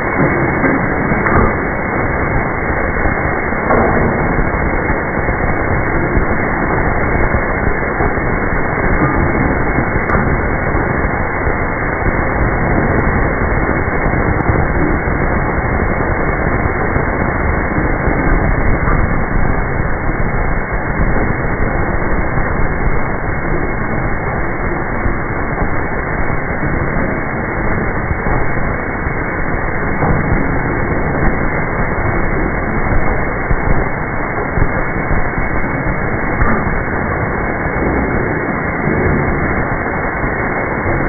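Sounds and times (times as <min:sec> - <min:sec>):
forging machine running: 0:00.0 - 0:41.0.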